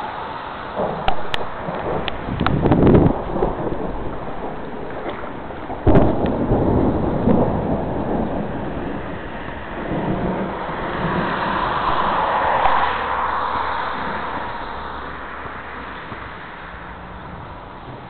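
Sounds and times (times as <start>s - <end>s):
thunder crack and rumble: 0.0s - 18.0s.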